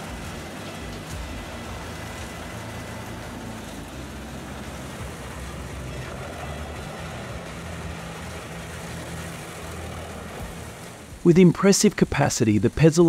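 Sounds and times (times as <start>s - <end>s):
wood chipper running: 0.0s - 13.0s.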